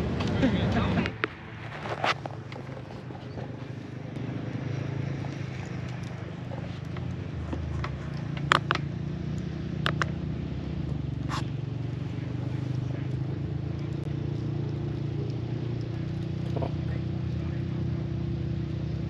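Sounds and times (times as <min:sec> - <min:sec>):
motorcycle engines rumbling: 0:00.0 - 0:19.0.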